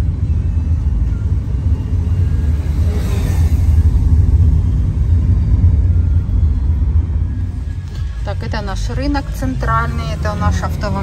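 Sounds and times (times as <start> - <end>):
car road noise low rumble: 0.0 - 11.0.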